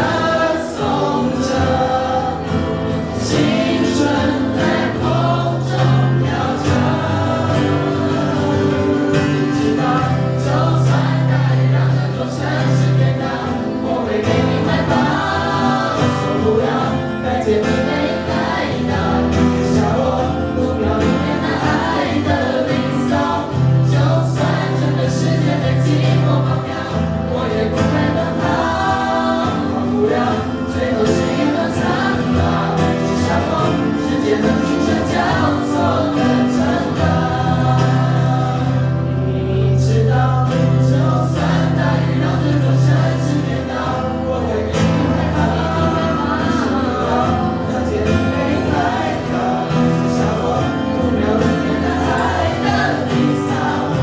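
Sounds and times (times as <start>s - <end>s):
group singing pop song: 0.0s - 54.0s
strummed acoustic guitars: 0.0s - 54.0s.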